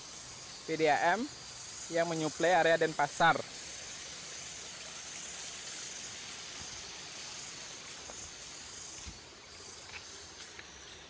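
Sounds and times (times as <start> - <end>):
faint high insect drone: 0.0 - 11.0
outdoor hiss: 0.0 - 11.0.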